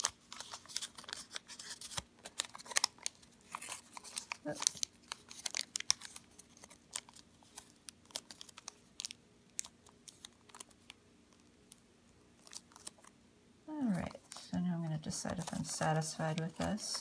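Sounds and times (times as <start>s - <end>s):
paper crinkling and clicking: 0.0s - 11.8s, 12.4s - 13.1s, 14.1s - 17.0s.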